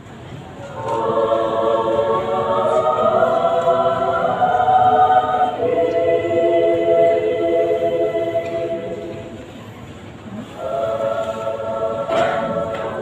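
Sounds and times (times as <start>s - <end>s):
women's choir singing chords: 0.7s - 9.6s, 10.4s - 13.0s.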